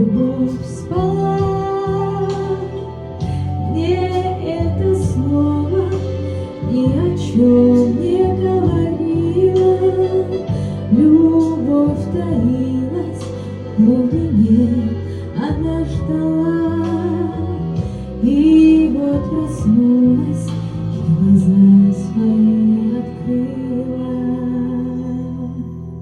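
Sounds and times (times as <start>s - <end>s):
woman singing slow song: 0.0s - 26.0s.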